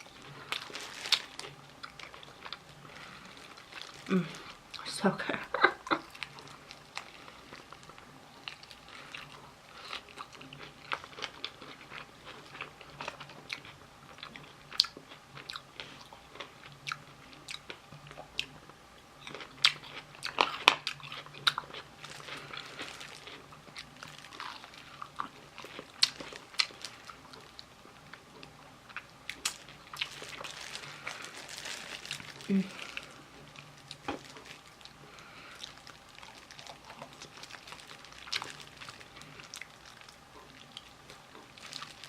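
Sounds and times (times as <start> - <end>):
crunchy chewing of fried chicken: 0.0 - 4.9, 5.6 - 42.0.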